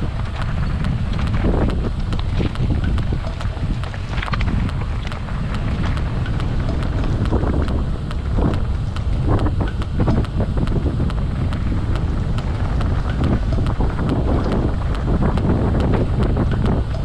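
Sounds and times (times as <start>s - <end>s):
steady low rumble: 0.0s - 17.0s
tyres and bike clattering: 0.0s - 17.0s
wind buffeting microphone: 0.0s - 17.0s.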